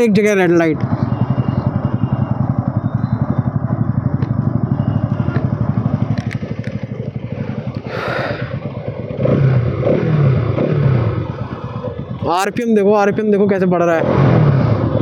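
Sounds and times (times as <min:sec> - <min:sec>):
motorcycle engine idling: 0:00.0 - 0:13.8.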